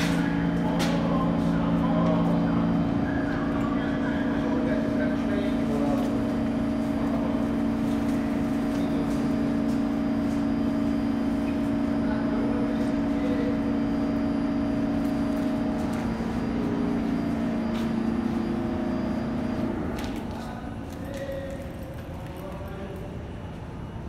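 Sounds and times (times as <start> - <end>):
subway train electrical hum: 0.0 - 24.0.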